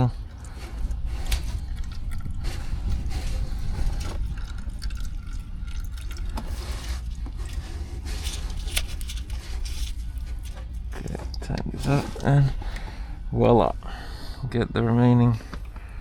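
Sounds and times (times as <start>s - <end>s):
oil trickling through tube: 0.0s - 14.1s
low steady hum: 0.0s - 16.0s.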